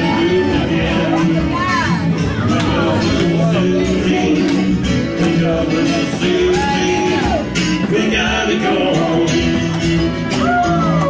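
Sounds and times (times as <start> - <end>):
country rock song: 0.0 - 11.0
guitar: 0.0 - 11.0
steady drum beat: 0.0 - 11.0.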